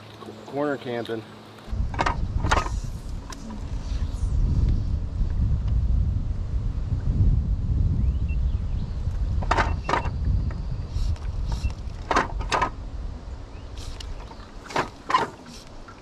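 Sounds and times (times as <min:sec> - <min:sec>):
wind buffeting microphone: 0:01.7 - 0:16.0.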